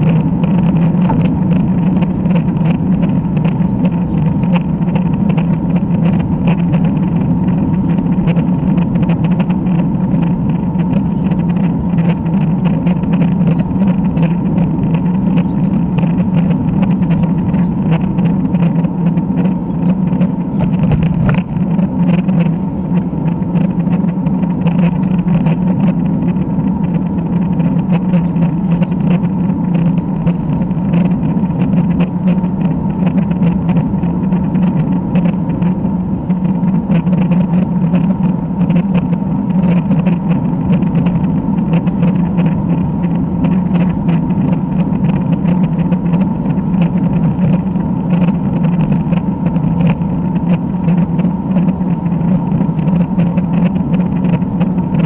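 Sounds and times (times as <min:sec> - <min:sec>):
road rumble: 0:00.0 - 0:55.0
wind noise on microphone: 0:00.0 - 0:55.0.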